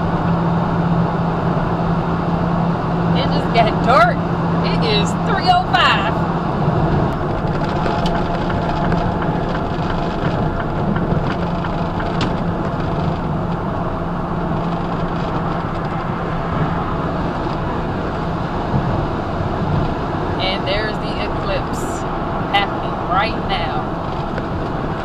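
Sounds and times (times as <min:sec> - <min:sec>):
diesel engine drone: 0:00.0 - 0:25.0
road and tyre noise: 0:00.0 - 0:25.0.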